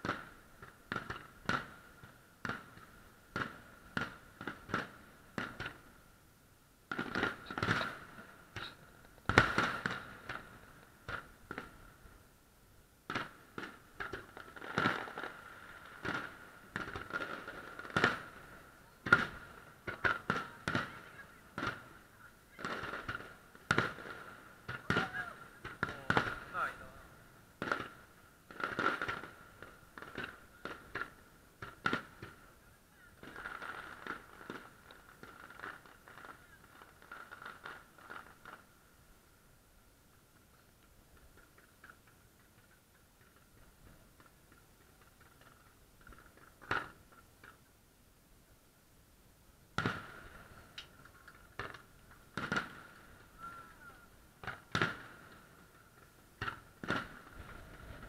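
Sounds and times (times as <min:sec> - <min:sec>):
fireworks bursting with sharp bangs: 0:00.0 - 0:12.4, 0:13.0 - 0:47.8, 0:49.5 - 0:58.0
fireworks crackling: 0:00.0 - 0:58.0.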